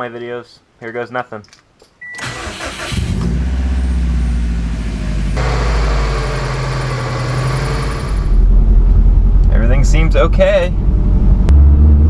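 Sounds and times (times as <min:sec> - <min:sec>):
car engine starting and idling: 0:02.1 - 0:12.0.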